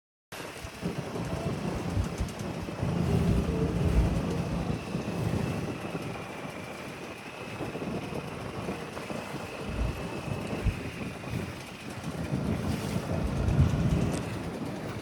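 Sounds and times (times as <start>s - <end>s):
boat engine running: 0.4s - 15.0s
wind buffeting microphone: 0.5s - 15.0s.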